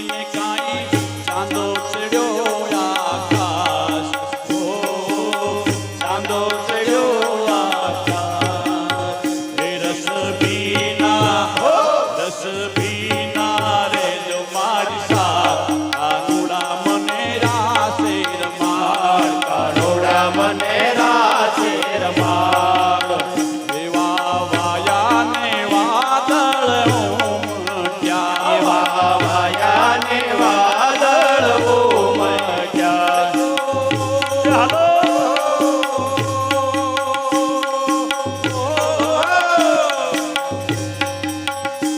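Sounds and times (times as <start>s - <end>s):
devotional music: 0.0s - 41.9s
tabla: 0.0s - 41.9s.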